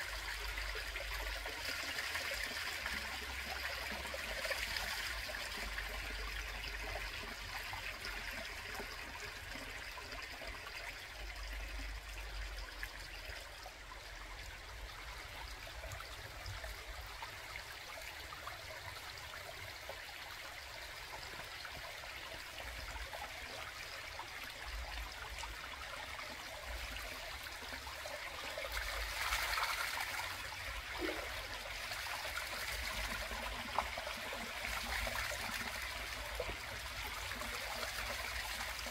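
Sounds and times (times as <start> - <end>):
water trickling over rocks: 0.0 - 38.9.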